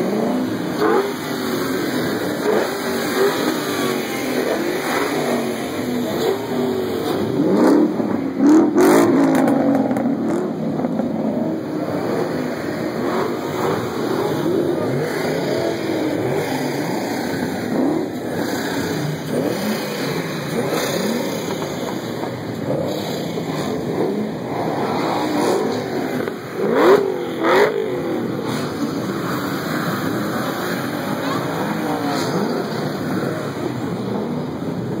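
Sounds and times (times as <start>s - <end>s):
engines revving: 0.0s - 35.0s.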